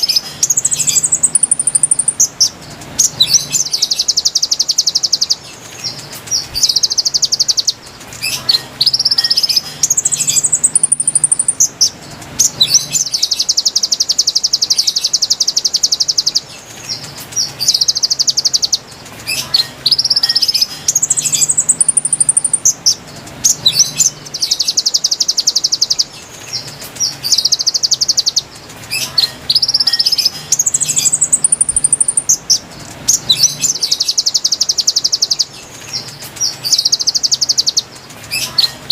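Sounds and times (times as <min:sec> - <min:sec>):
bird trilling: 0:00.0 - 0:38.9.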